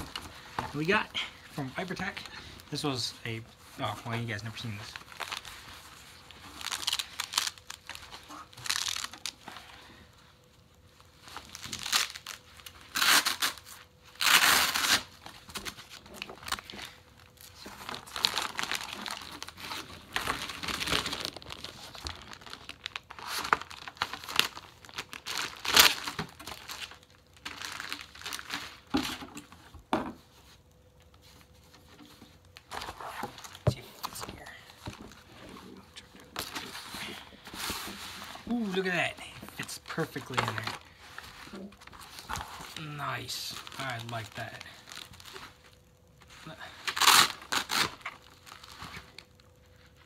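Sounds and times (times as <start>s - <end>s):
plastic packaging crinkling: 0.0s - 29.7s, 30.3s - 50.0s.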